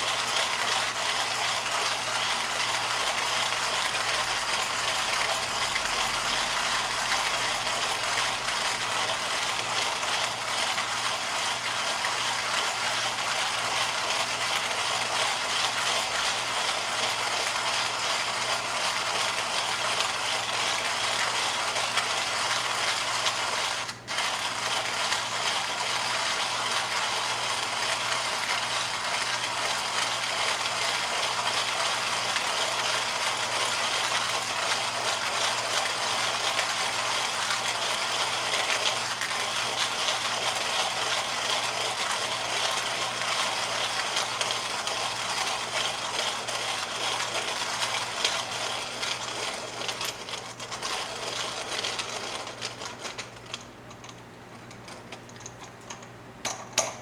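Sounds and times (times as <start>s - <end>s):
coffee grinder grinding beans: 0.0s - 57.0s.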